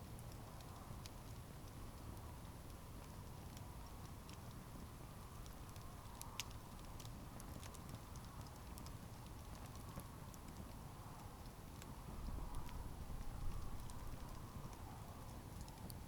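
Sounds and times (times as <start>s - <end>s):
campfire crackling and popping: 0.0s - 16.0s
rumble of flames: 0.0s - 16.0s.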